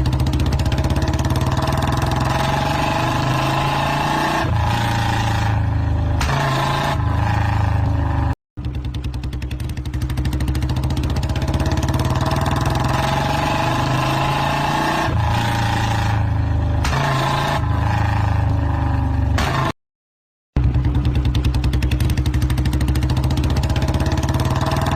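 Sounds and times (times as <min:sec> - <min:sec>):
motorcycle engine running: 0:00.0 - 0:19.6, 0:20.6 - 0:24.9.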